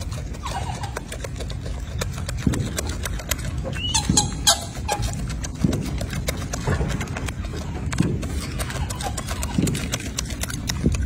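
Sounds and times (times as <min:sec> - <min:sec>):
monkeys calling: 0:00.0 - 0:11.0
scattered clicks: 0:00.0 - 0:11.0
steady low rumble: 0:00.0 - 0:11.0.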